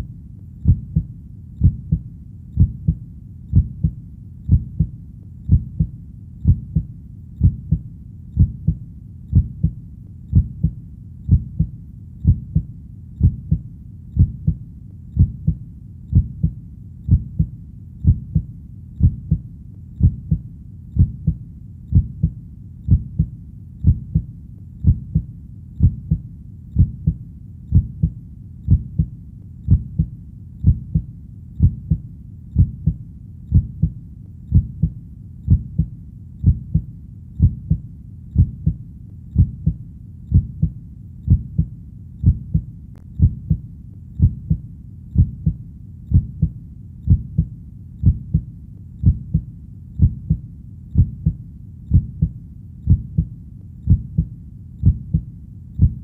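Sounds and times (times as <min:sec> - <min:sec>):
heartbeat: 0:00.0 - 0:56.0.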